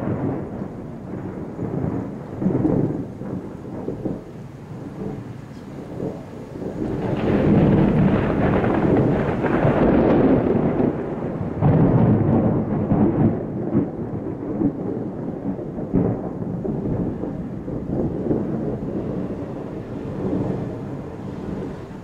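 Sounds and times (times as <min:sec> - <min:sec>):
sharp thunder cracks: 0:00.0 - 0:22.0
thunder rumbling: 0:00.0 - 0:22.0.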